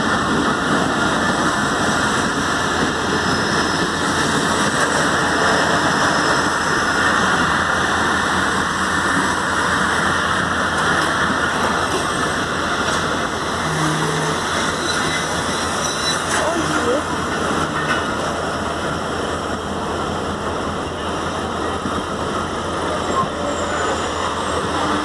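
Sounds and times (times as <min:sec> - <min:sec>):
train wheels on rails: 0:00.0 - 0:25.0.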